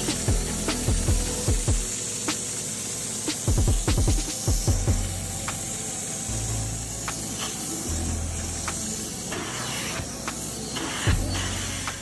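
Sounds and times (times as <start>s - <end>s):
extractor motor hum: 0.0s - 12.0s
extractor spraying hiss: 0.0s - 12.0s.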